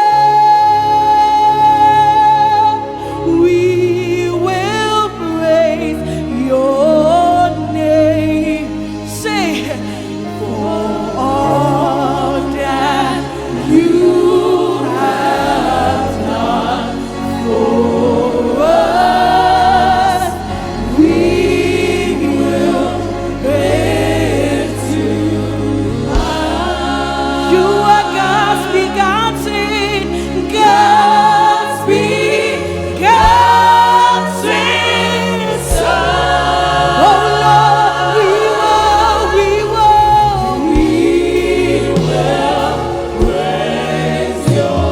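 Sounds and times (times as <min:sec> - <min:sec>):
choir singing gospel: 0:00.0 - 0:44.9
sustained instrumental backing: 0:00.0 - 0:44.9.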